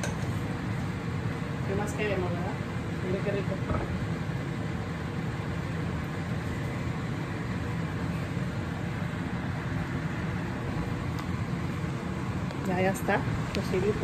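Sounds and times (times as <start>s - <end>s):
gas range rushing with low rumble: 0.0s - 14.0s.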